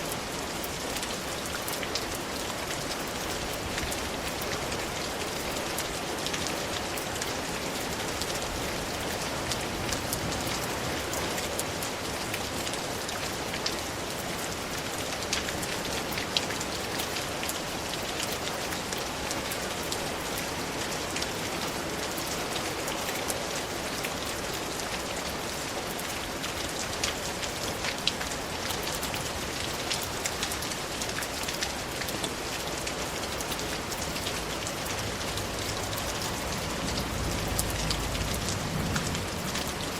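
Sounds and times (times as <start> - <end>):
rain falling: 0.0 - 39.9
raindrops ticking on a surface: 0.0 - 39.9.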